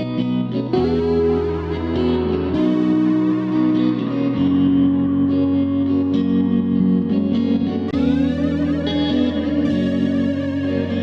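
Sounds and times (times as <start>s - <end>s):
guitar with effects: 0.0s - 11.0s
low bass: 0.0s - 11.0s.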